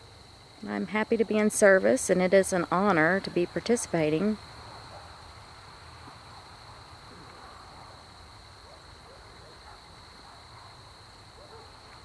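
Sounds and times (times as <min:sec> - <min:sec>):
crickets trilling: 0:00.0 - 0:12.0
low background hum: 0:00.0 - 0:12.0.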